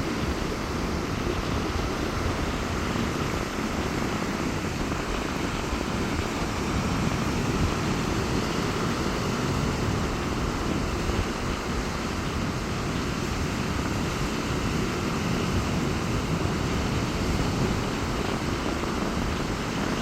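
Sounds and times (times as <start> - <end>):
sea waves washing on beach: 0.0 - 20.0
strong wind rumble: 0.0 - 20.0.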